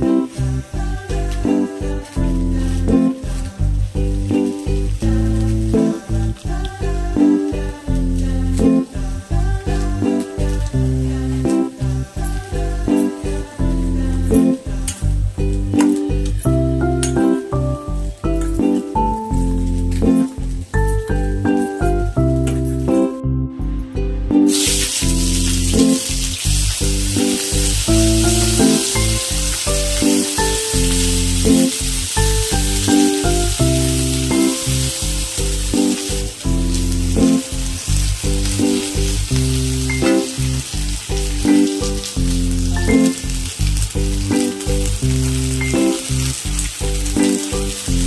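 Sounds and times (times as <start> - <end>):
food sizzling in a pan: 0.0 - 23.2, 24.4 - 48.0
background music: 0.0 - 48.0.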